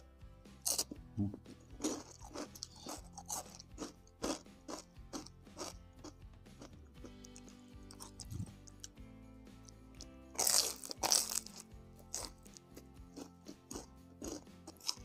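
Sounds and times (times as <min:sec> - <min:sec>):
background music: 0:00.0 - 0:15.0
crunchy bites into fried snack: 0:00.6 - 0:01.0, 0:01.8 - 0:08.8, 0:10.4 - 0:15.0
chewing crunches: 0:00.6 - 0:08.9, 0:10.0 - 0:15.0.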